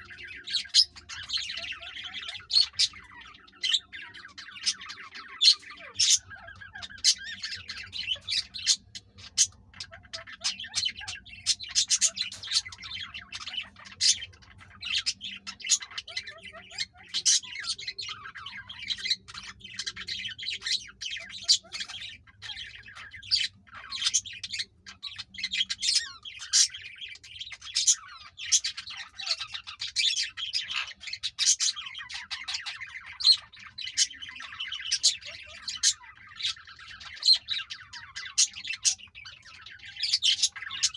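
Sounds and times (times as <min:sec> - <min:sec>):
parakeets chattering: 0:00.0 - 0:40.9.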